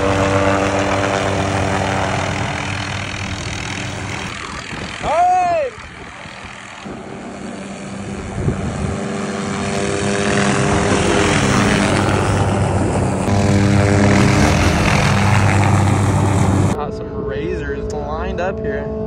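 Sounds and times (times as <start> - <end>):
helicopter engine and rotor: 0.0 - 16.8.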